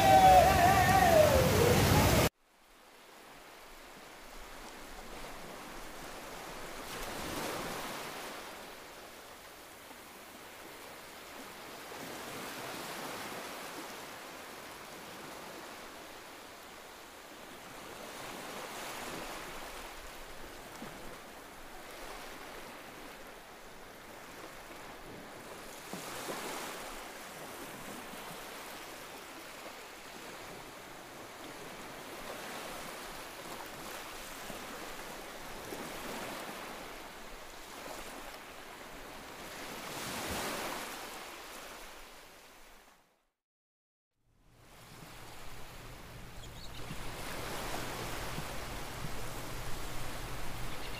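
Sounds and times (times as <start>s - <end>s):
rushing river water: 0.0s - 43.2s, 44.5s - 50.9s.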